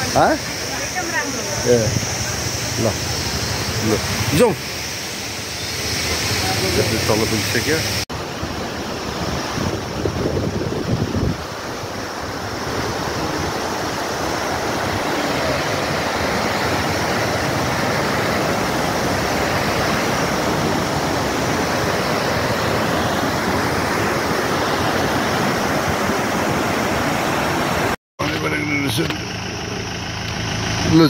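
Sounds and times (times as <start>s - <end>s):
river rapids rushing over boulders: 2.7s - 28.0s.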